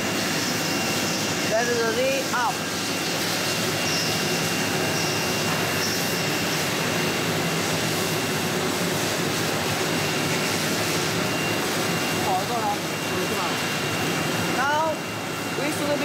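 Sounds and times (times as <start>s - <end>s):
machinery rushing noise: 0.0s - 16.0s
thin high whine: 0.0s - 16.0s.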